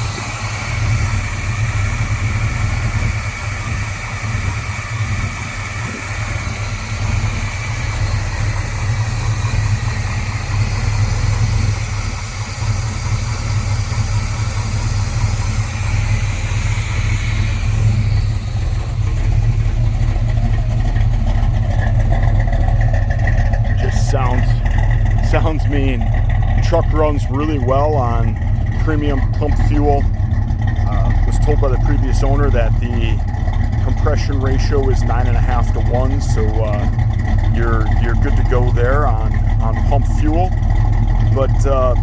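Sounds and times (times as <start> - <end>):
pickup truck engine rumbling: 0.0 - 42.0.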